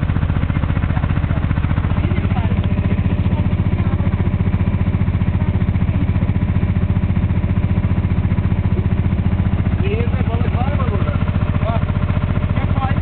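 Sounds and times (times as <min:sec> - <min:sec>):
boat engine throbbing: 0:00.0 - 0:13.0.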